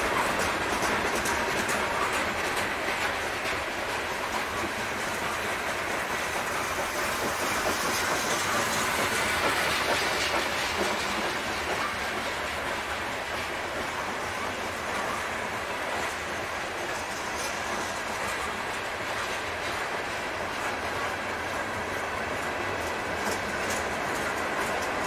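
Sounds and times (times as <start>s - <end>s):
steel wheels clattering on rails: 0.0s - 25.0s.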